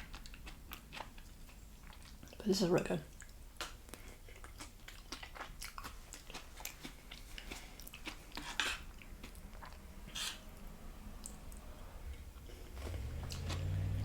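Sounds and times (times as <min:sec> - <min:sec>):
crunchy food chewing: 0:00.0 - 0:02.4, 0:03.1 - 0:10.4, 0:12.1 - 0:13.8.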